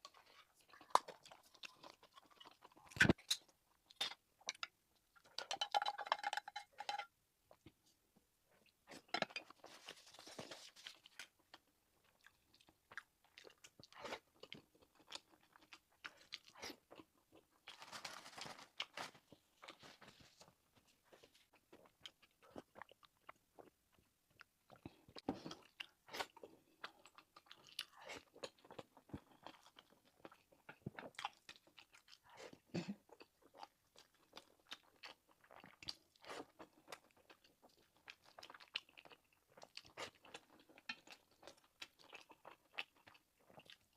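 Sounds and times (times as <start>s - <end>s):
chewing and crunching food: 0.0s - 7.8s, 8.5s - 43.9s.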